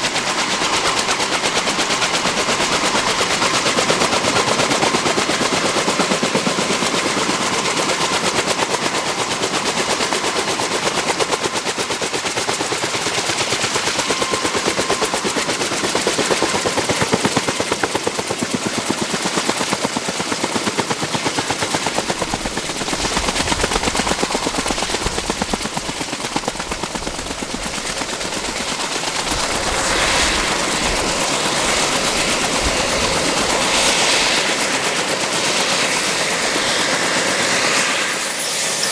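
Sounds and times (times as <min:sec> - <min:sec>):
helicopter rotors chopping: 0:00.0 - 0:38.9.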